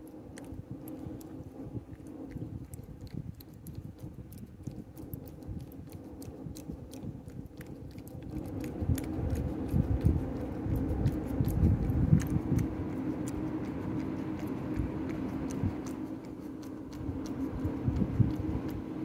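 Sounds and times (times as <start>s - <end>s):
cat licking: 0.0s - 19.0s
low steady hum: 0.0s - 19.0s.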